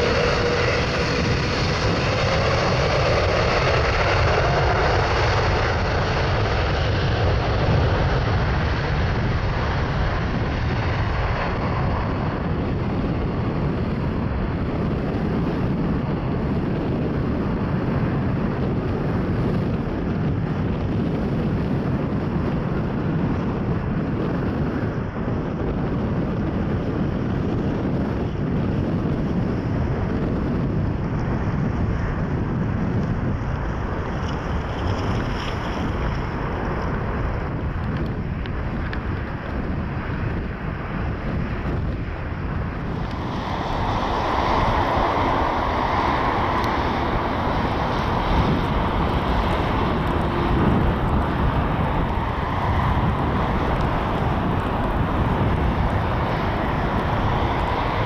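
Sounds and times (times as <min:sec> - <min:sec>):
jet engines at takeoff: 0:00.0 - 0:58.0.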